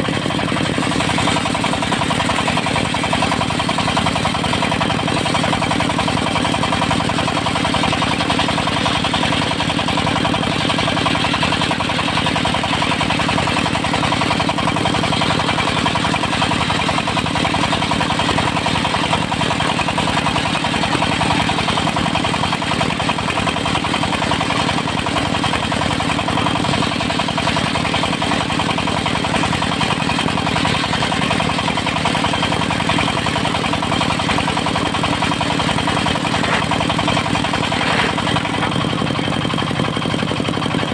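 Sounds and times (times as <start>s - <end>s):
sawmill diesel engine running: 0.0s - 40.9s.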